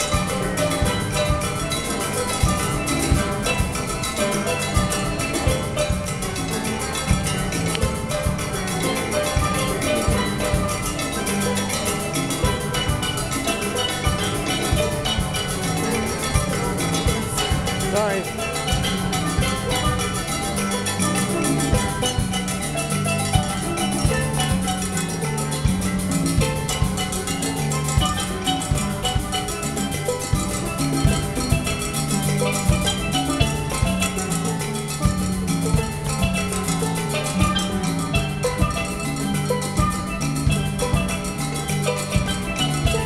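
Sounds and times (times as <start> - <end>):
congas and timbales: 0.0 - 43.0
drum kit: 0.0 - 43.0
steel pans playing tune: 0.0 - 43.0.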